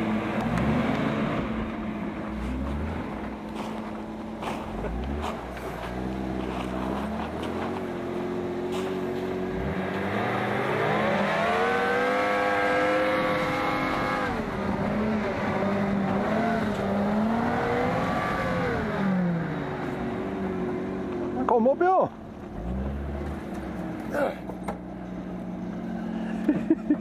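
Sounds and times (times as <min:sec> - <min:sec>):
off-road vehicle engine revving: 0:00.0 - 0:27.0.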